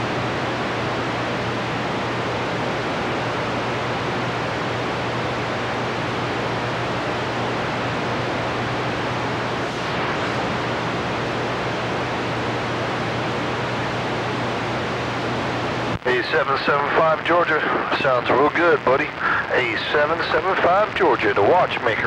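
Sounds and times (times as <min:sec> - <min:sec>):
low steady hum: 0:00.0 - 0:22.0
radio static hiss: 0:00.0 - 0:22.0.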